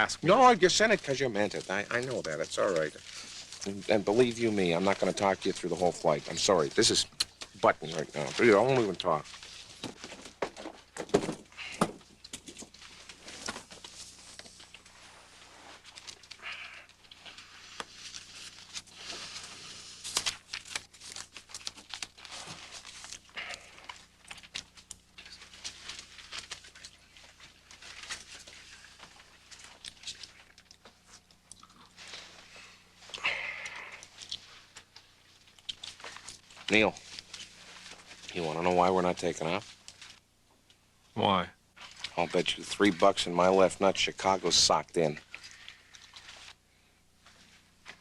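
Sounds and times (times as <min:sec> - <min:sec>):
rustling and crinkling: 0:00.0 - 0:40.8, 0:41.7 - 0:48.0.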